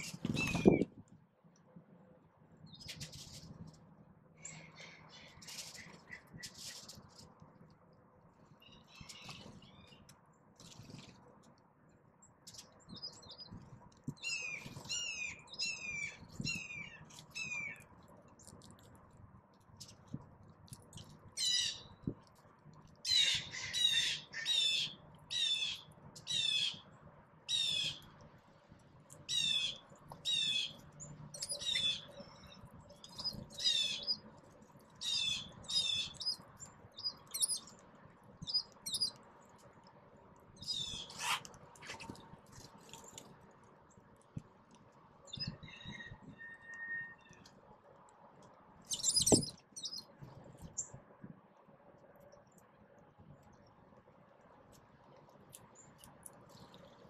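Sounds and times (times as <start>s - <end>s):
songbirds chirping: 2.5s - 57.0s.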